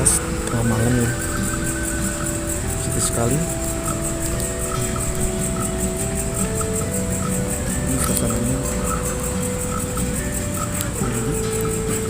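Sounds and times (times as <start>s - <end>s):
slow background music: 0.0s - 12.0s
steady high hiss: 0.0s - 12.0s.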